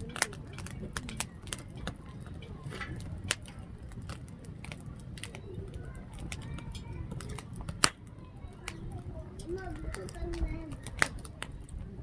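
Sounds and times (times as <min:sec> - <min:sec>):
campfire crackling and popping: 0:00.0 - 0:12.0
low fire rumble: 0:00.0 - 0:12.0.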